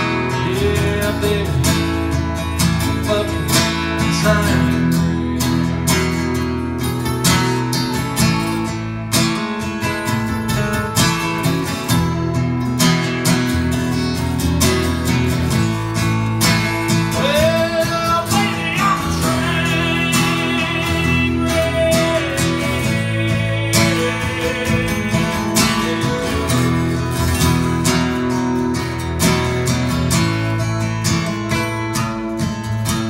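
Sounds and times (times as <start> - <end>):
sliding guitar lead melody: 0.0 - 33.0
strummed acoustic guitar chords: 0.0 - 33.0.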